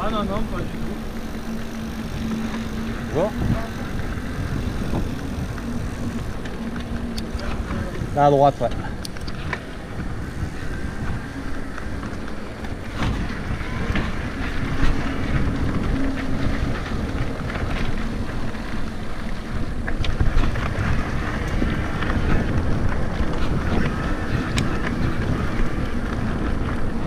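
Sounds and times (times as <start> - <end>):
tyres rumbling on dirt trail: 0.0 - 27.0
wind buffeting microphone: 0.0 - 27.0.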